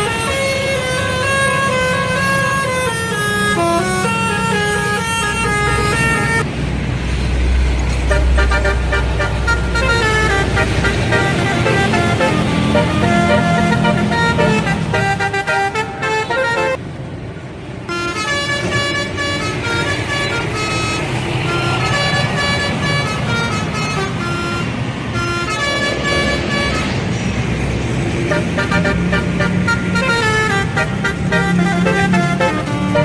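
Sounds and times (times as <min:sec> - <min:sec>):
multi-tone bus horn playing notes: 0:00.0 - 0:06.5, 0:08.0 - 0:16.8, 0:17.9 - 0:33.0.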